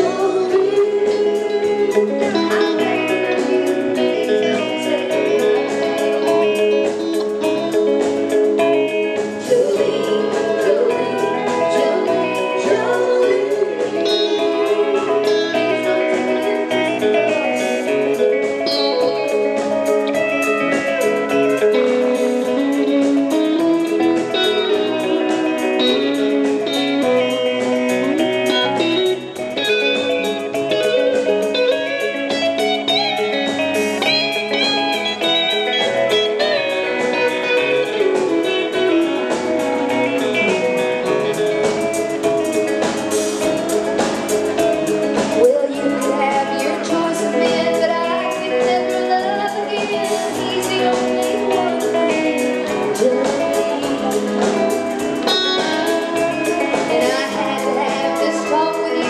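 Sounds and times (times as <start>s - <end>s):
live band with guitars: 0.0s - 59.0s.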